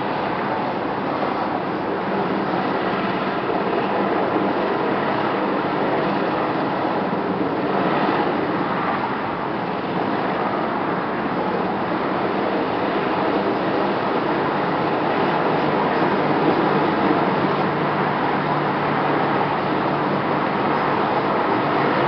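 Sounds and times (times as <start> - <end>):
helicopter engines and rotor: 0.0 - 22.0.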